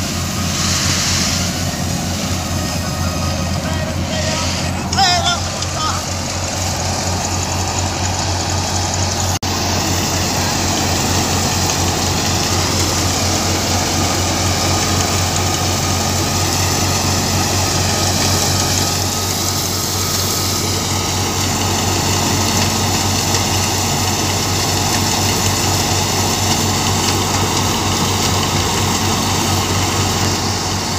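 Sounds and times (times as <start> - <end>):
harvesting machine engine running: 0.0 - 30.9.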